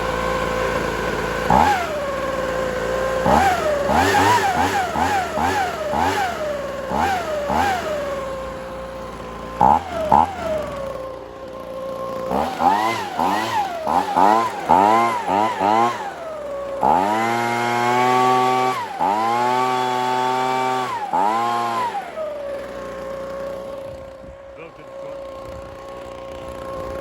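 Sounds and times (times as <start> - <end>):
leaf blower idling and revving: 0.0 - 27.0.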